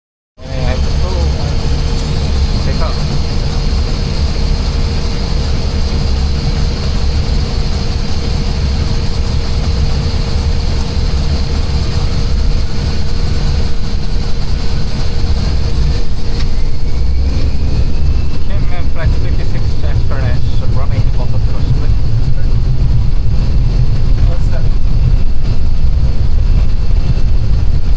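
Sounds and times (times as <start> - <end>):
airliner cabin engine rumble: 0.4 - 27.9
faint rising whine: 0.4 - 27.9.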